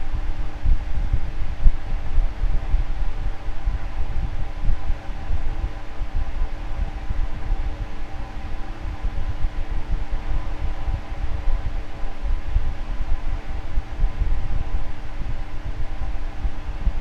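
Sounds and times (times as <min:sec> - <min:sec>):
electric fan motor hum: 0:00.0 - 0:17.0
low rumble: 0:00.0 - 0:17.0.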